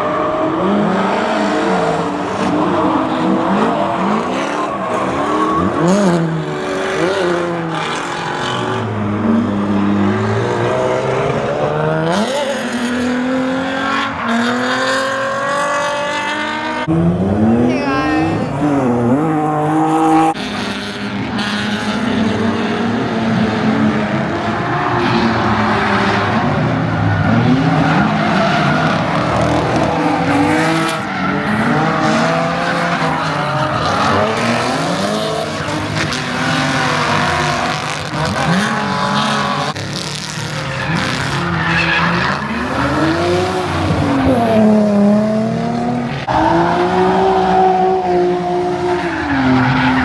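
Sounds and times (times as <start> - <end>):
car engines revving hard: 0.0 - 50.0.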